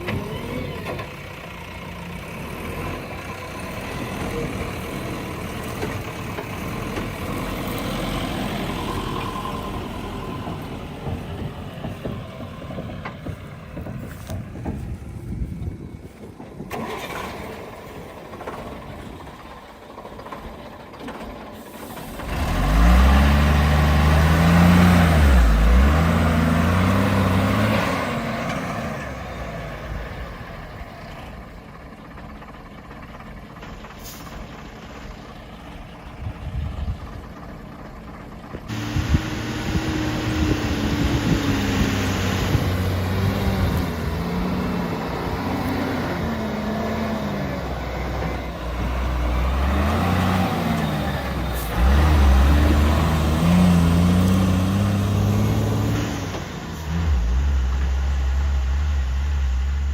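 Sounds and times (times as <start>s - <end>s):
diesel engine revving under load: 0.0s - 59.9s.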